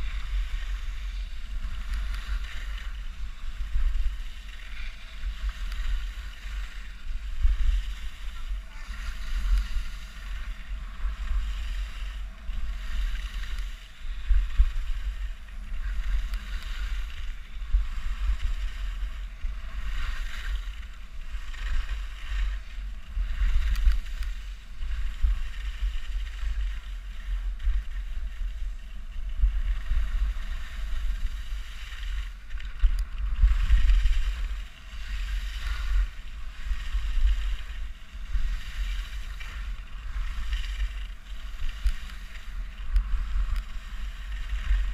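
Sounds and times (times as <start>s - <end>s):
skis carving on snow: 0.0s - 44.9s
wind rumbling on microphone: 0.0s - 44.9s.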